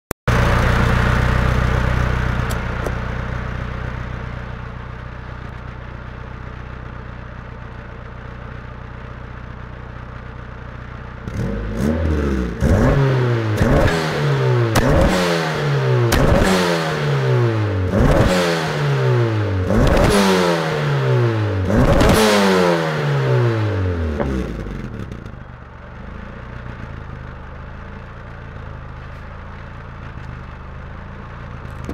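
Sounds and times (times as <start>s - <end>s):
car exhaust idling and revving: 0.3s - 31.9s.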